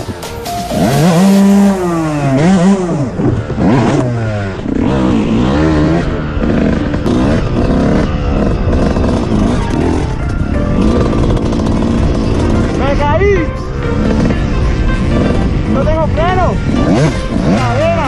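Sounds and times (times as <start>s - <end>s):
dirt bike engine revving: 0.4s - 18.0s.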